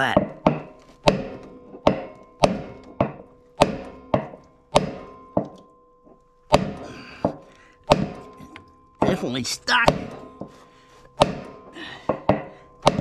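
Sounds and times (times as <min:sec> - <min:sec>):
sledgehammer striking metal: 0:00.0 - 0:05.7, 0:06.5 - 0:10.6, 0:11.2 - 0:13.0.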